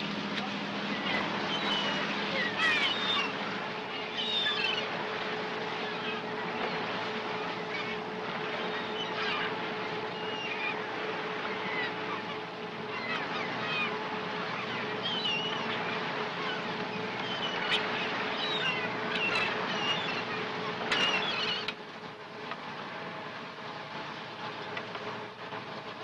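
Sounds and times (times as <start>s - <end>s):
boat engine droning: 0.0s - 26.0s
gulls calling: 0.0s - 26.0s.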